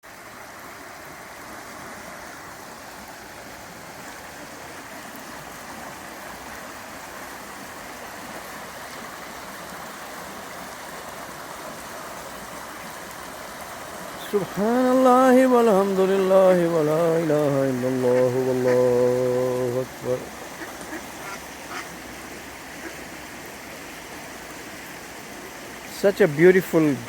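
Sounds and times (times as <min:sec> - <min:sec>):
river water flowing: 0:00.0 - 0:27.0.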